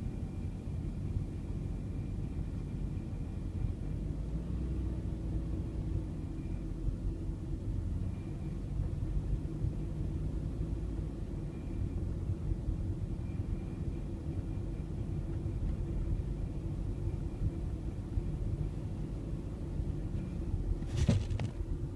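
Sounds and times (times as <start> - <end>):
car engine with buzzing rattle: 0.0 - 21.9.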